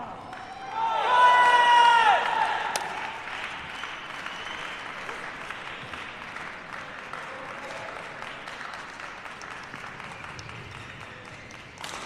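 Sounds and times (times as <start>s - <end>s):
audience applauding: 0.2s - 12.0s.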